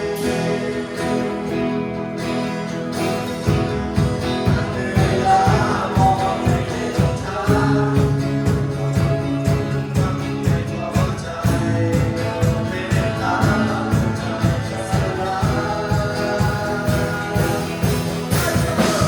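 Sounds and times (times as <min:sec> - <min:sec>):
person singing: 0:00.0 - 0:01.8, 0:04.0 - 0:19.0
worship band playing: 0:00.0 - 0:19.0
steady drum beat: 0:03.4 - 0:19.0.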